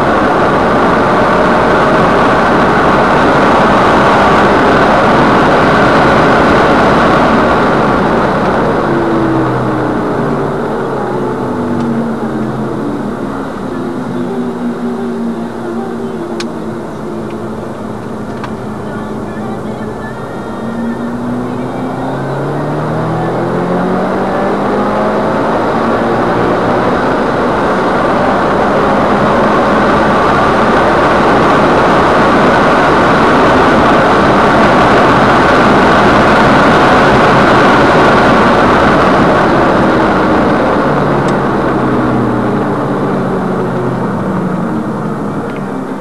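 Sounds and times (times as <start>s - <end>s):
car engine running hard: 0.0s - 46.0s
wind and road noise: 0.0s - 46.0s.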